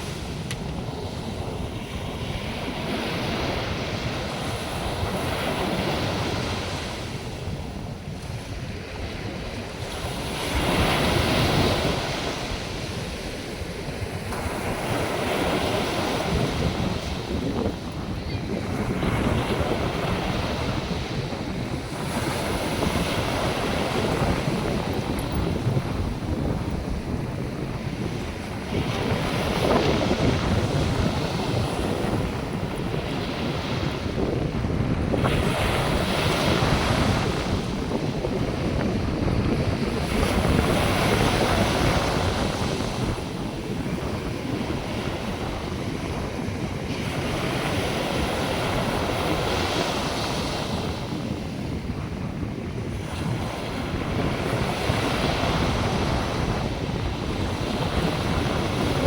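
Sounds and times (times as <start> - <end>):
surf breaking on sandy beach: 0.0 - 59.0
wind buffeting microphone: 0.0 - 59.0.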